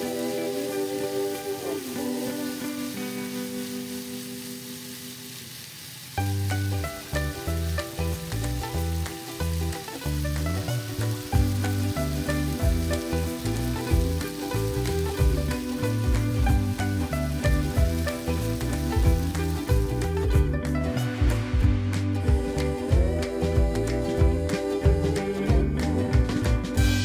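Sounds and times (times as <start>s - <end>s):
background music: 0.0s - 5.0s, 6.2s - 27.0s
meat and onions sizzling in pan: 0.0s - 27.0s.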